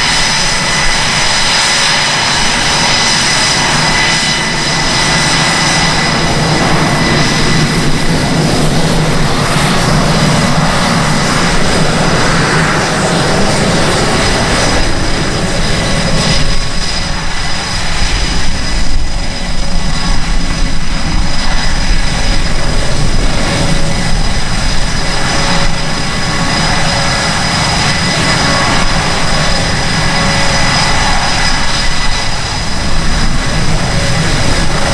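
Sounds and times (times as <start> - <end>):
jet engines whining and rumbling: 0.0 - 34.9.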